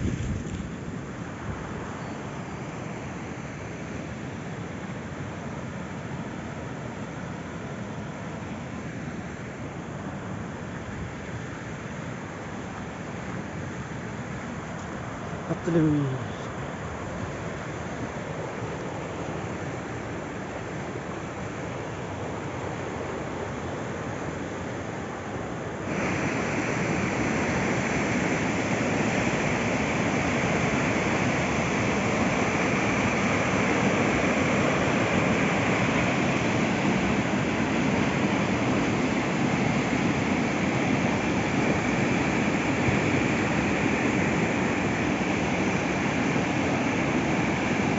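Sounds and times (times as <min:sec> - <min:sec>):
river rushing in flood: 0:00.0 - 0:47.9.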